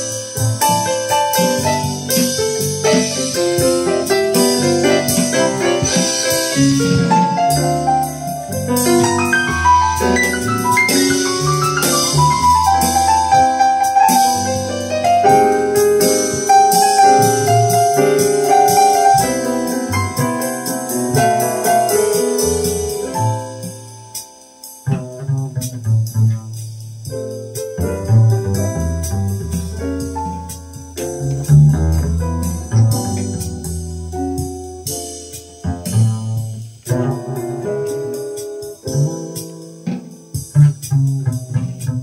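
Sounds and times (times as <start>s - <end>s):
walking bass: 0.0s - 24.0s, 24.8s - 42.0s
jazz piano melody: 0.0s - 42.0s.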